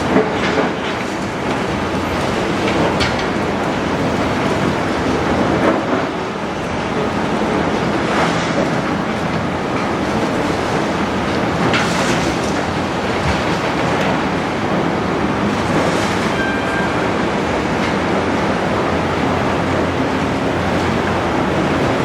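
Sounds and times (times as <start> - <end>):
engine and hydraulic rumble: 0.0 - 22.0.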